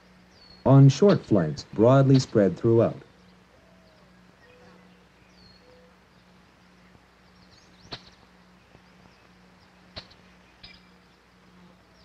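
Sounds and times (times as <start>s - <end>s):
film hiss: 0.0s - 12.0s
low hum: 0.0s - 12.0s
faint chirps: 2.0s - 12.0s.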